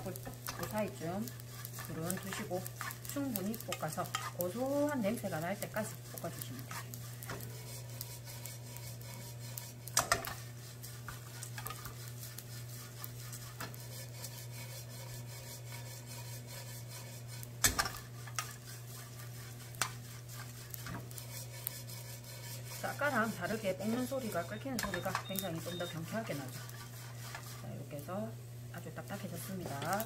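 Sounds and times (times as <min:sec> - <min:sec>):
fish sizzling in a frying pan: 0:00.0 - 0:30.0
wooden spoon scraping a pan: 0:00.0 - 0:30.0.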